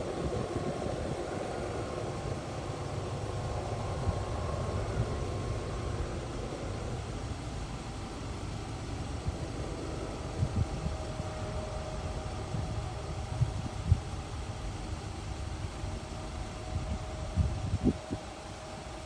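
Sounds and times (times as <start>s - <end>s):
diesel locomotives rumbling: 0.0s - 19.0s.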